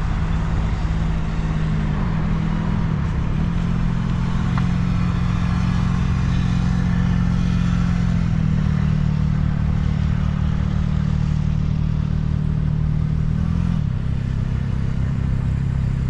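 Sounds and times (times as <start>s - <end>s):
street noise: 0.0s - 16.0s
vehicle engine droning: 0.0s - 16.0s.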